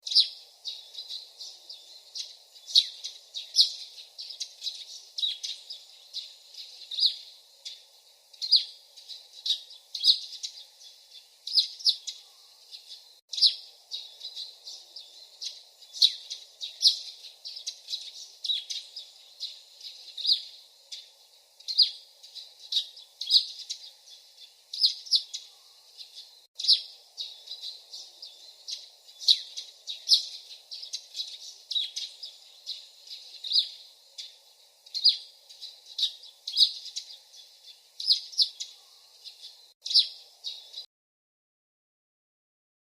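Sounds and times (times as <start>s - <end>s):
faint low hiss: 0.0s - 40.9s
songbird chirping: 0.0s - 40.9s.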